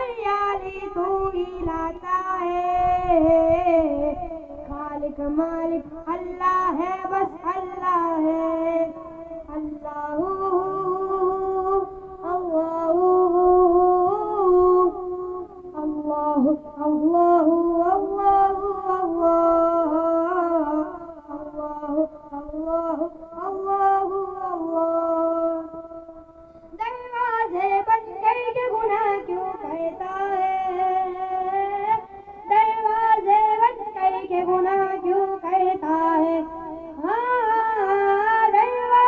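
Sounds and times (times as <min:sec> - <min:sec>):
person singing hymn over loudspeaker: 0:00.0 - 0:39.0.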